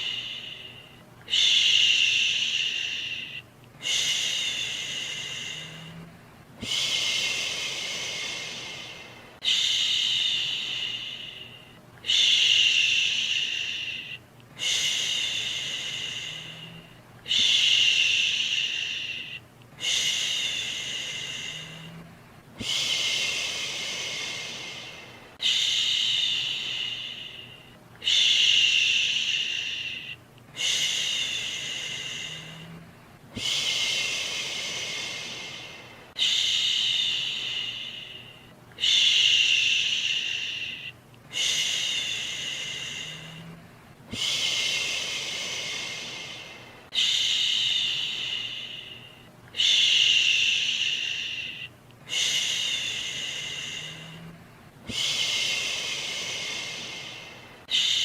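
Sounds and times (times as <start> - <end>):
person shushing: 0.0 - 58.0.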